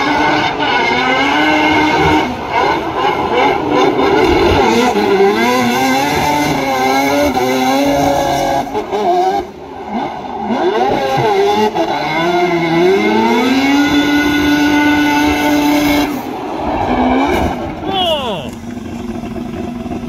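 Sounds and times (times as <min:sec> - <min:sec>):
rotary engine revving hard: 0:00.0 - 0:17.8.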